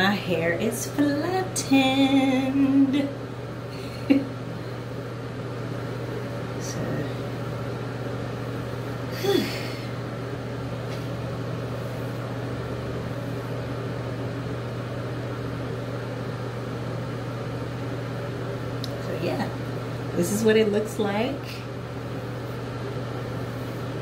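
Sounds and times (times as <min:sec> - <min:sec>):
exhaust fan humming: 0:00.0 - 0:24.0.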